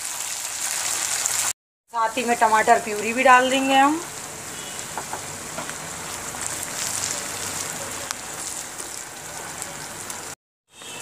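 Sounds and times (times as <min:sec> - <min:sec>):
spices sizzling in oil: 0:00.0 - 0:10.4.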